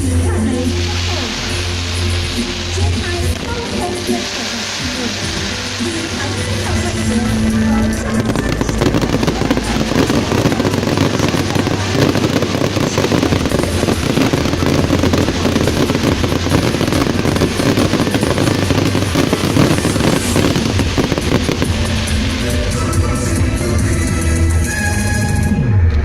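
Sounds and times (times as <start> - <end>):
fireworks cracking and banging: 0.0 - 24.8.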